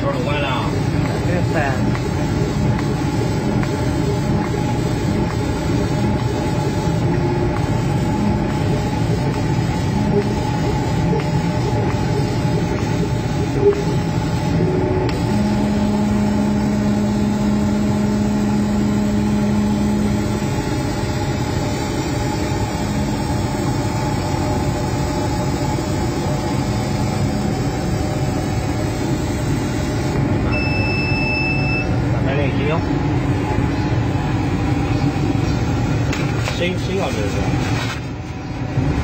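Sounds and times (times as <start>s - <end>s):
laser cutter humming: 0.0s - 39.0s.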